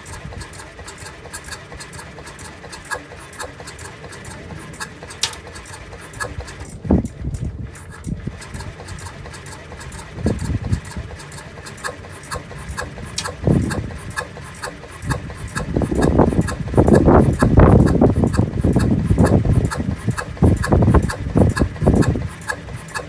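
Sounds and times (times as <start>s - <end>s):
steady ticking: 0.0s - 6.8s, 7.8s - 23.0s
moped engine running unevenly: 0.0s - 23.0s.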